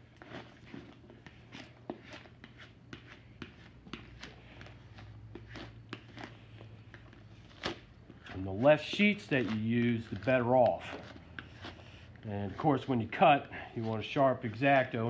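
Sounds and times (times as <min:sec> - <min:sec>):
squeegee scraping: 0:00.0 - 0:15.0.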